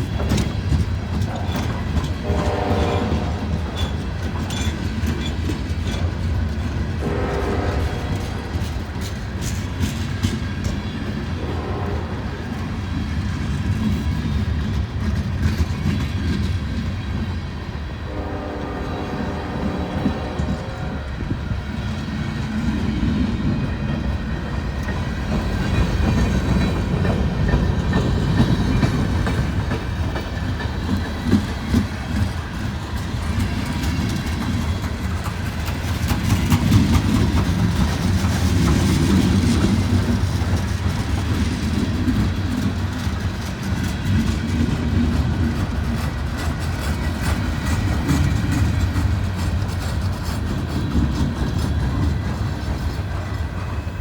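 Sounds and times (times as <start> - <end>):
freight train rolling past: 0.0 - 54.0
wheels clacking over rail joints: 0.0 - 54.0.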